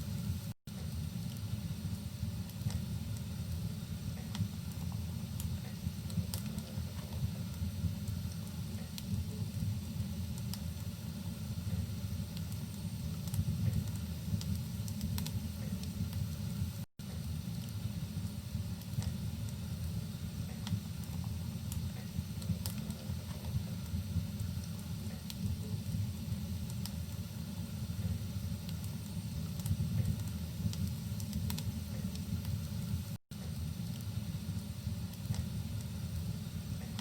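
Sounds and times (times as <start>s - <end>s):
low steady rumble: 0.0s - 37.0s
wood fire crackling and popping: 0.0s - 37.0s.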